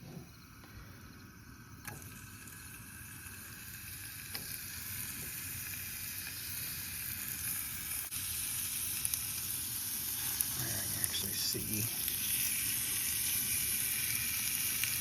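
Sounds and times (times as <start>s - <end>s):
meat sizzling in butter: 1.2s - 15.0s.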